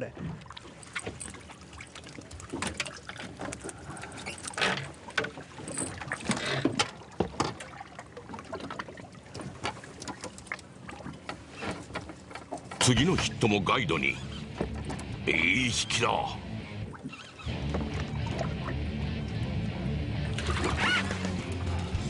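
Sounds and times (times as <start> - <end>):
water lapping against boat hull: 0.0 - 22.0
water splashes: 0.0 - 22.0.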